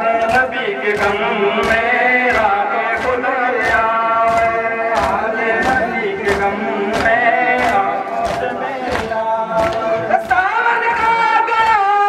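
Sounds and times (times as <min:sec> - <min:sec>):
men chanting together: 0:00.0 - 0:12.0
sharp beat: 0:00.0 - 0:12.0.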